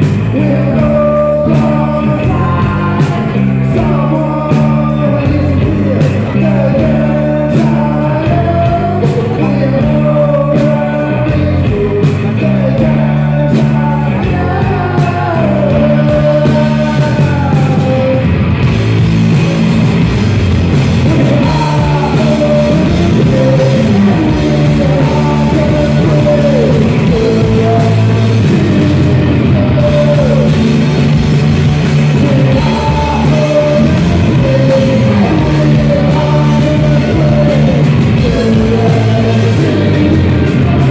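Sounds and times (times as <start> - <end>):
person singing: 0.0 - 20.0, 20.7 - 40.9
live rock band playing: 0.0 - 40.9.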